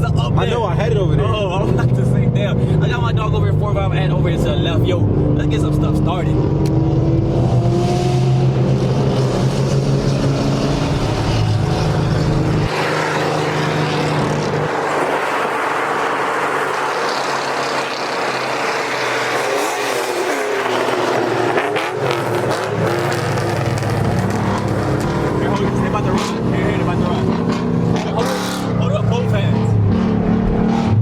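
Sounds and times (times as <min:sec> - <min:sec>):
car engines idling: 0:00.0 - 0:06.7, 0:08.5 - 0:31.0
cars accelerating hard: 0:00.0 - 0:31.0.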